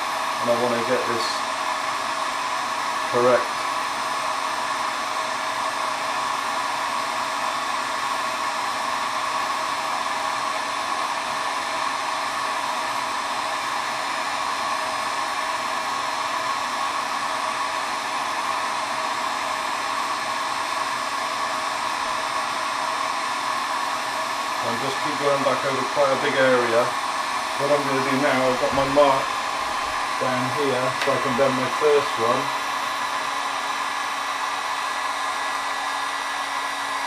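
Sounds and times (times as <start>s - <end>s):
heat gun blowing: 0.0s - 37.0s.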